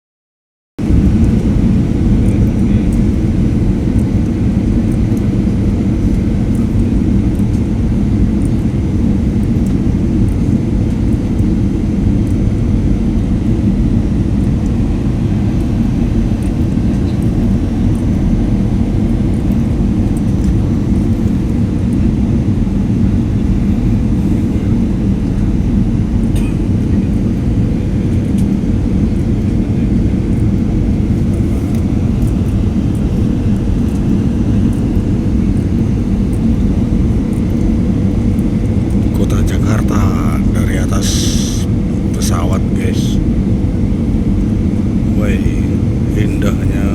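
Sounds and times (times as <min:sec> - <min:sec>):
aircraft wind roar: 0:00.8 - 0:46.9.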